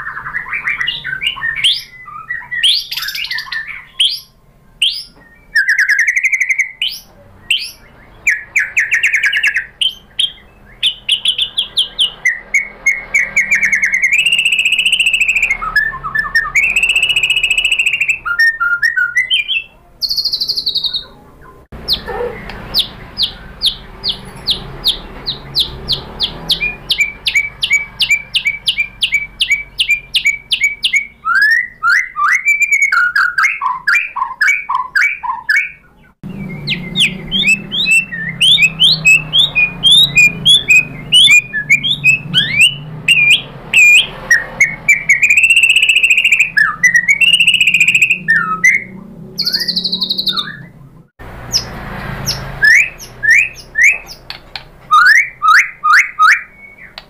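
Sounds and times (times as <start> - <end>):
bird singing whistled phrases: 0.0 - 50.8, 52.3 - 54.3, 54.9 - 57.0
rapid sharp bird notes: 0.0 - 57.0.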